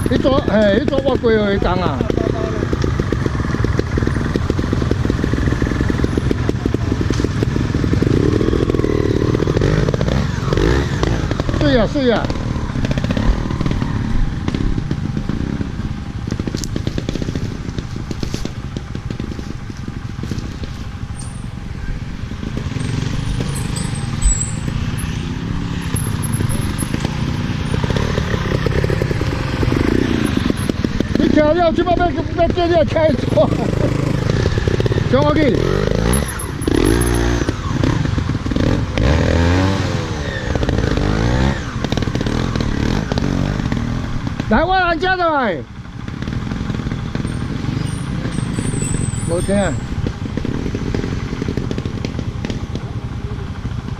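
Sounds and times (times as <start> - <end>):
vehicle engine pulsing: 0.0 - 53.9.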